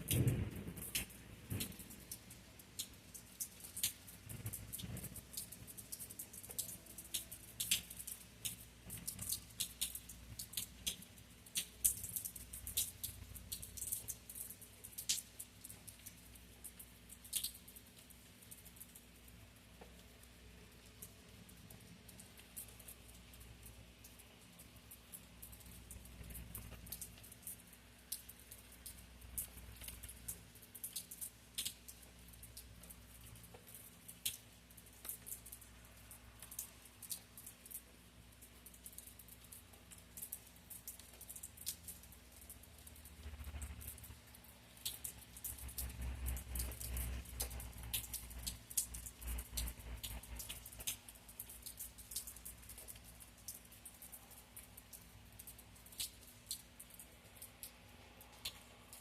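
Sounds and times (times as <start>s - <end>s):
raindrops tapping on hard surface: 0.0s - 59.0s.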